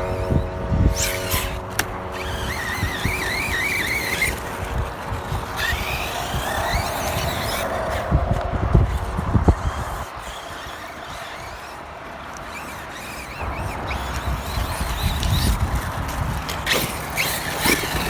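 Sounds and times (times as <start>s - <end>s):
toy truck motor and tyres rumbling: 0.0s - 18.0s.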